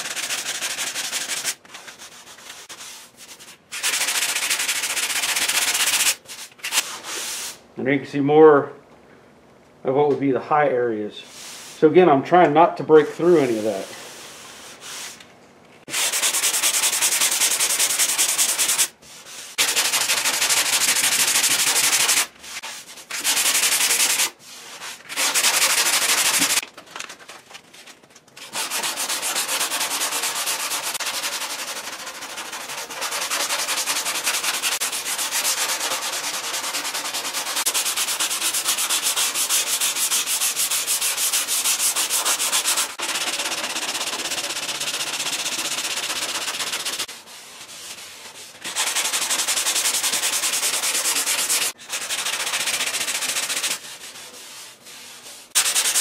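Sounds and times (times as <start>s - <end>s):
sanding block rasping: 0.0s - 2.9s, 3.7s - 7.6s, 15.9s - 26.6s, 28.4s - 56.0s.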